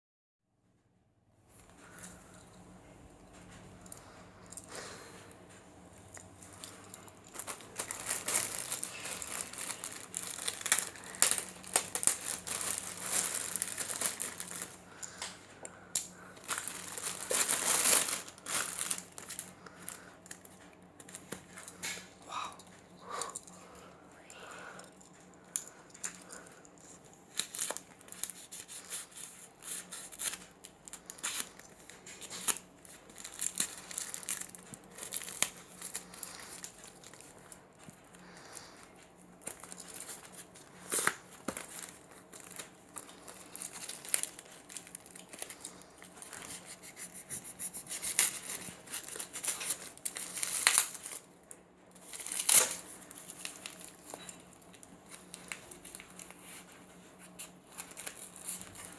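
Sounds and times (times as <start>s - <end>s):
plastic wrap crinkling and tearing: 6.5s - 15.4s, 16.0s - 22.1s, 25.6s - 51.3s, 52.0s - 58.9s.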